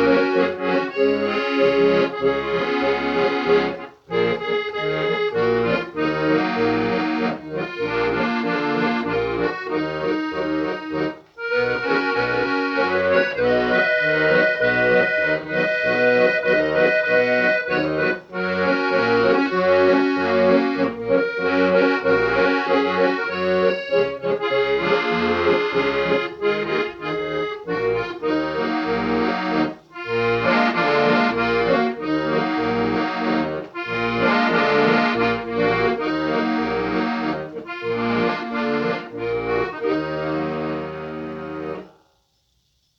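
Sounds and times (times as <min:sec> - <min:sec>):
accordion music: 0:00.0 - 0:42.0.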